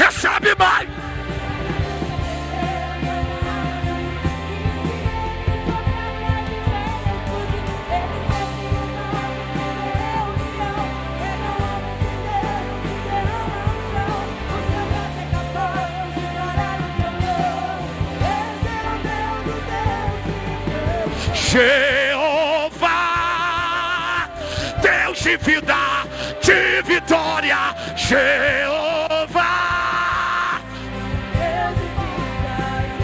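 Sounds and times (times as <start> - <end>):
drum beat: 0.0 - 33.0
singing voice with vibrato: 0.0 - 33.0
worship band playing: 0.0 - 33.0.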